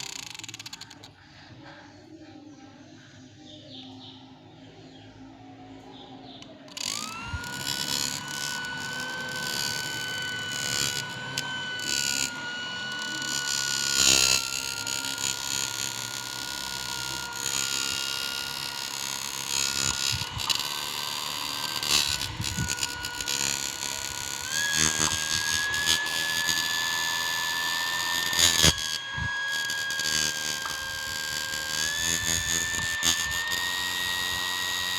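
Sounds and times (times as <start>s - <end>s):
electric fan whine: 0.0s - 1.8s, 5.2s - 34.9s
fan rasping noise: 0.0s - 1.9s, 6.4s - 34.9s.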